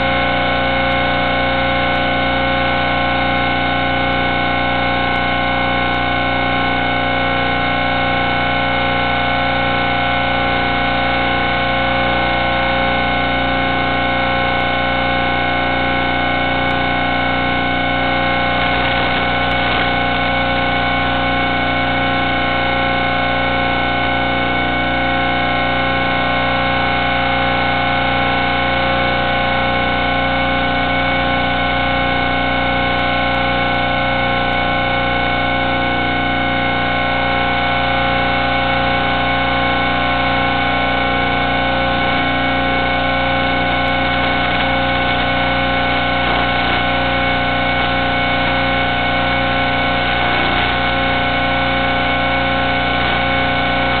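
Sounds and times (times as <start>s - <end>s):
electronic buzz of fixed tones: 0.0s - 54.0s.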